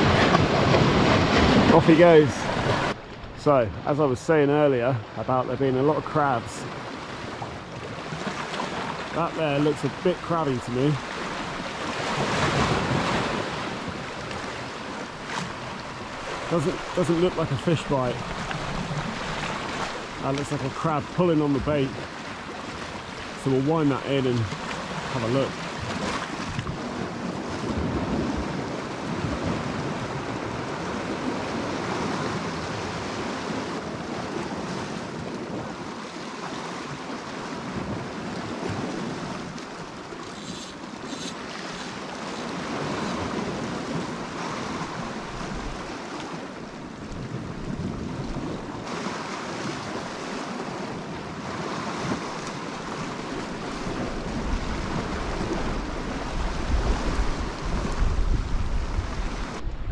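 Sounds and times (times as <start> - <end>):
wind gusting on microphone: 0.0 - 3.9, 5.9 - 36.0, 37.5 - 59.9
sea surf washing against rocks: 0.0 - 59.9.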